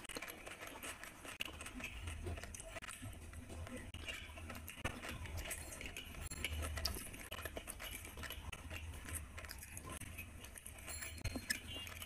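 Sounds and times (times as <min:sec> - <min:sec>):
fingers squishing food in gravy: 0:00.0 - 0:12.0
wet chewing and mouth clicks: 0:00.0 - 0:12.0.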